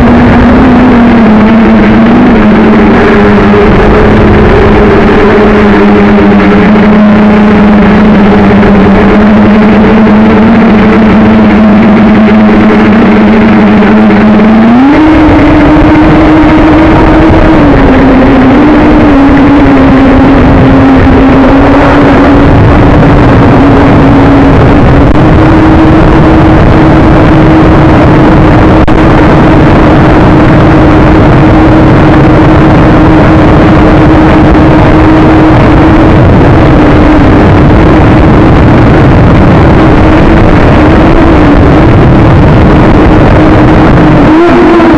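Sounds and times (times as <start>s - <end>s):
drone motors humming: 0.0s - 44.9s
wind buffeting microphone: 0.0s - 44.9s.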